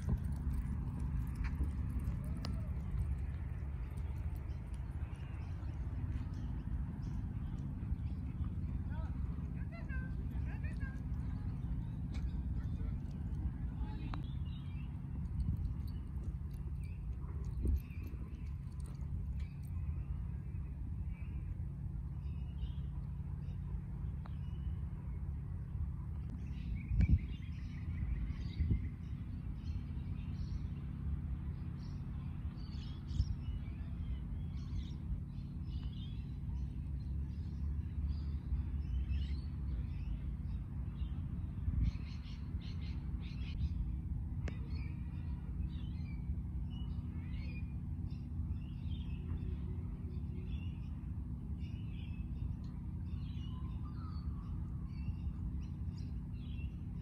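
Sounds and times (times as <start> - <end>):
small birds chirping: 0.0 - 24.9, 25.6 - 57.0
steady low hum: 0.0 - 57.0.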